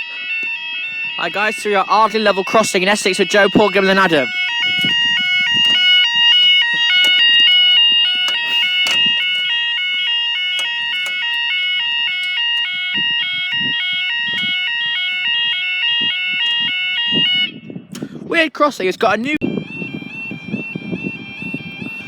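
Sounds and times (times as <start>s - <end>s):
electronic yodel alarm: 0.0s - 17.7s, 19.4s - 22.0s.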